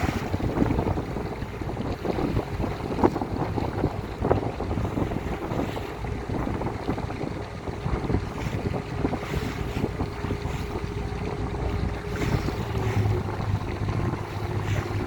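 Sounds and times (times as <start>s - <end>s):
ferry engine rumble: 0.0s - 15.0s
wind buffeting microphone: 0.0s - 15.0s.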